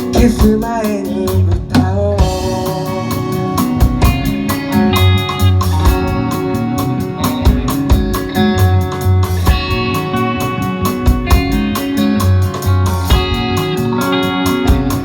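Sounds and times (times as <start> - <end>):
band playing guitars bass drums: 0.0 - 15.0.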